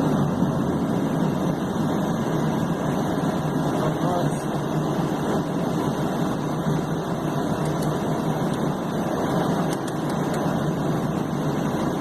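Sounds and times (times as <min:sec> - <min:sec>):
turboprop engines running: 0:00.0 - 0:12.0.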